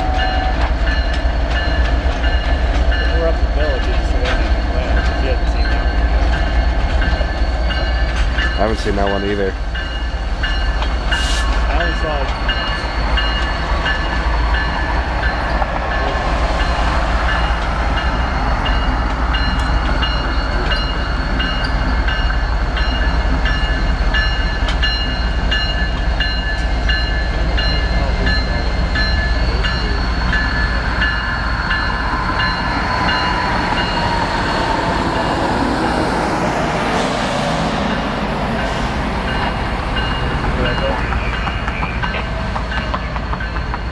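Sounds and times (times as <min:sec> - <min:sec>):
locomotive bell ringing: 0:00.0 - 0:35.7, 0:37.8 - 0:43.9
diesel locomotive rumbling: 0:00.0 - 0:43.9.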